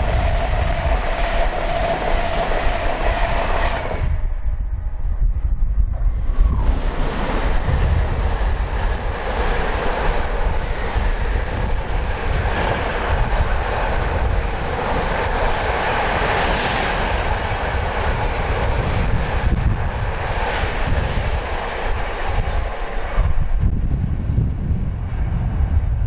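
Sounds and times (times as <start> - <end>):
train passing at speed: 0.0 - 26.0
wind buffeting microphone: 0.0 - 26.0.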